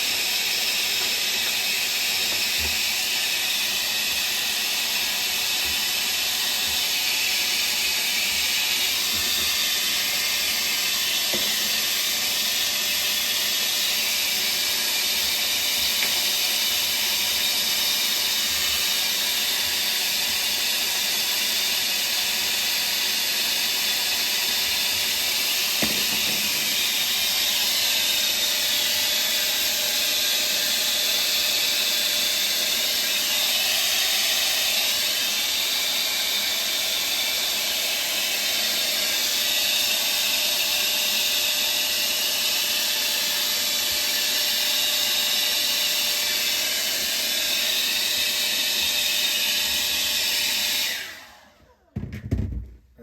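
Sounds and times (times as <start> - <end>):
hair dryer running: 0.0 - 52.5.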